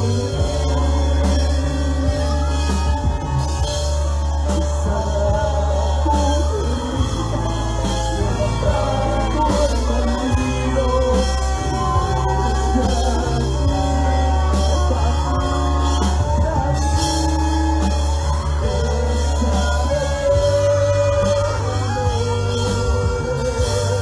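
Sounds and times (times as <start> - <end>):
worship band playing: 0.0 - 24.0.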